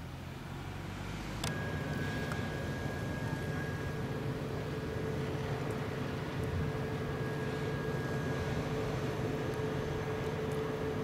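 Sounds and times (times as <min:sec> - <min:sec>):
droning whine: 0:00.0 - 0:11.0
ship engines rumbling: 0:01.4 - 0:11.0.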